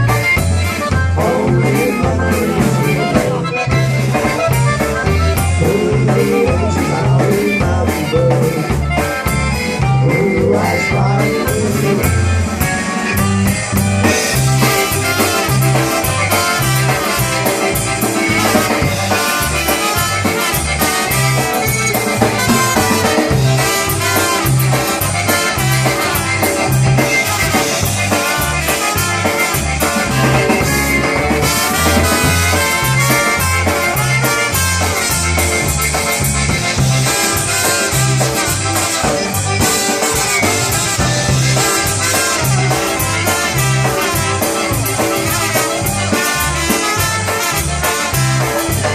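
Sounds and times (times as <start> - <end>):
live polka band music: 0.0 - 48.9.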